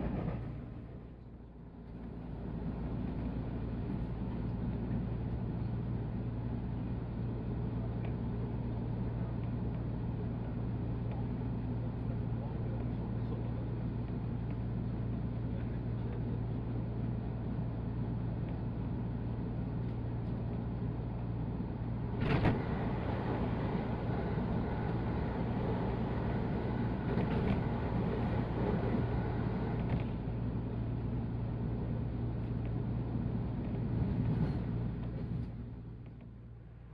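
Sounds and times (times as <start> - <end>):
electric train running rumble: 0.0 - 36.9.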